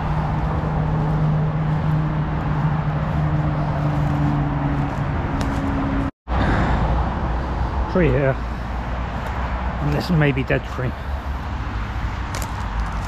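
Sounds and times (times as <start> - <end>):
low engine hum: 0.0 - 13.0
road traffic noise: 0.0 - 13.0.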